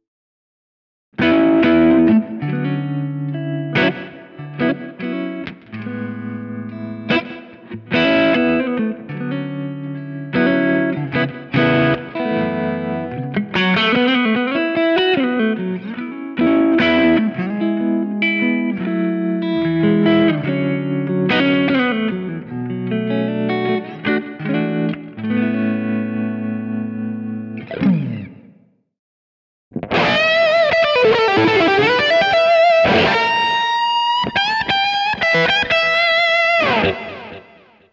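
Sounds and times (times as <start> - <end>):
electric guitar playing: 1.2 - 28.6, 29.8 - 37.9.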